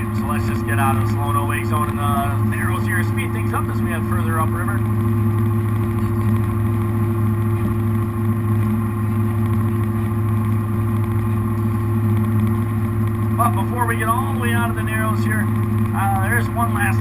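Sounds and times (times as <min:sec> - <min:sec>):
boat engines droning: 0:00.0 - 0:17.0.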